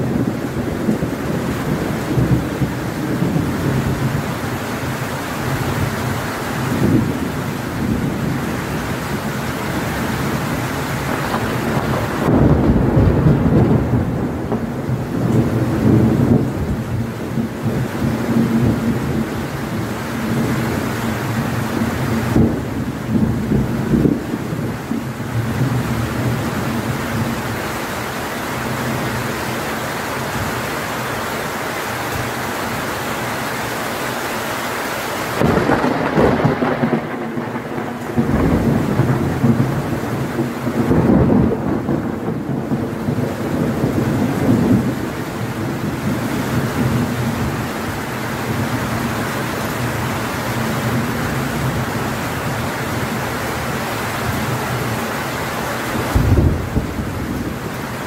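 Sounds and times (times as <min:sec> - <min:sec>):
thunder rumbling: 0:00.0 - 0:27.6, 0:35.3 - 0:58.0
heavy rain falling: 0:00.0 - 0:58.0.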